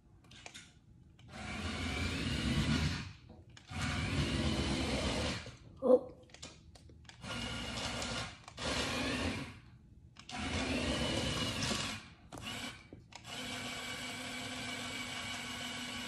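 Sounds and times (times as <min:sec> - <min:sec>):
toy truck electric motor whirring: 0:01.2 - 0:05.6, 0:07.1 - 0:16.0.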